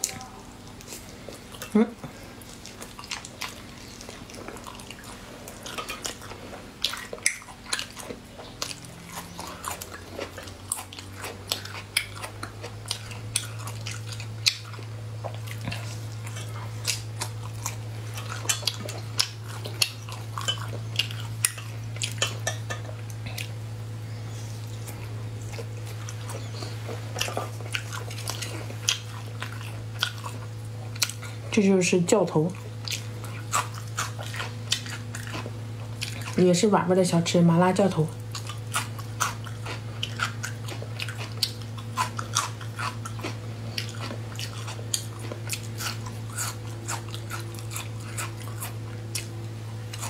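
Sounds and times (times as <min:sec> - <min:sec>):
mouth clicks and crunches: 0:00.0 - 0:23.6, 0:24.6 - 0:31.6, 0:32.5 - 0:36.4, 0:38.1 - 0:50.0
person chewing crunchy food: 0:00.0 - 0:31.6, 0:32.4 - 0:36.5, 0:38.0 - 0:50.0
low steady hum: 0:00.0 - 0:50.0.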